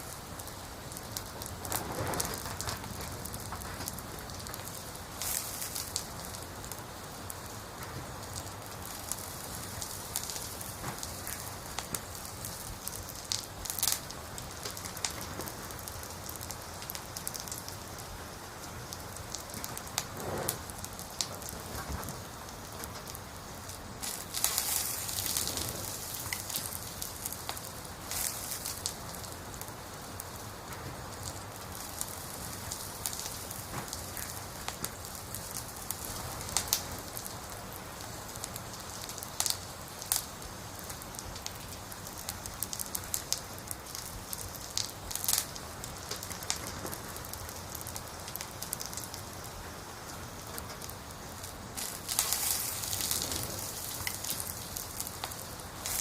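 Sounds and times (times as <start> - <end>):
firewood crackling and popping: 0.0 - 56.0
steady fire hiss: 0.0 - 56.0.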